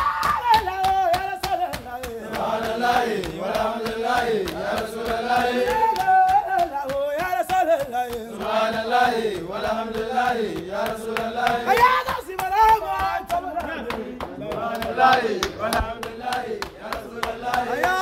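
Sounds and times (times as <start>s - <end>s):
hand clapping: 0.0s - 18.0s
men chanting in unison: 0.0s - 18.0s.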